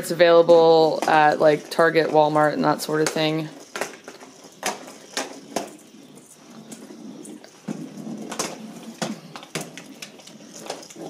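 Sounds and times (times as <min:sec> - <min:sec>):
toy ball motor running: 0:00.0 - 0:11.0.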